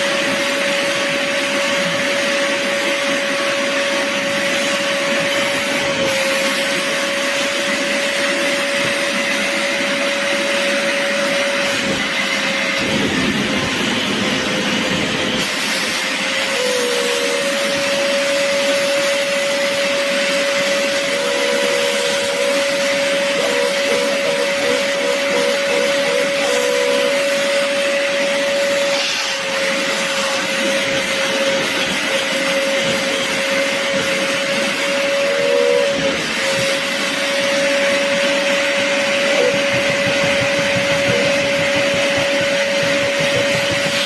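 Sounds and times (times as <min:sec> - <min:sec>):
carpet cleaner motor whine and suction: 0:00.0 - 0:44.0.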